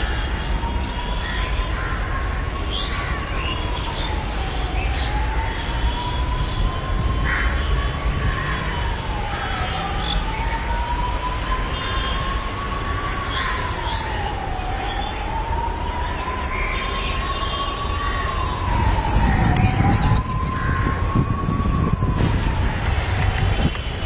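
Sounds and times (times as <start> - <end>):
siren wailing slowly: 0.0 - 24.0.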